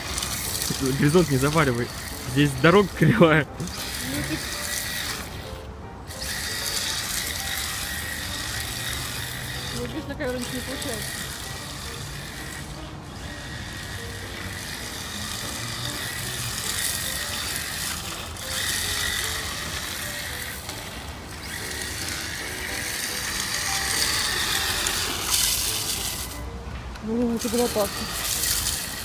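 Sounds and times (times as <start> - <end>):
wheels rattling over road: 0.0 - 4.9, 7.3 - 29.0
toy car motor whirring: 0.0 - 29.0.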